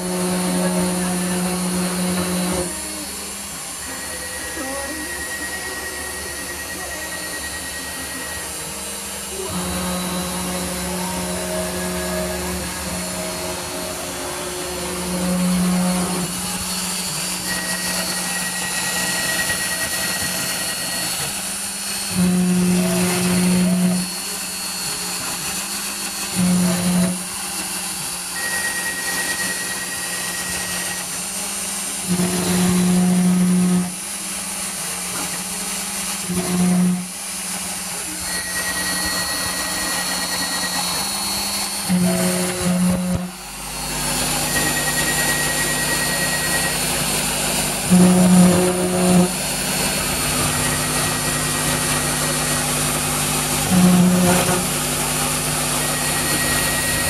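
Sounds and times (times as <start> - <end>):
router milling wood: 0.0 - 57.0.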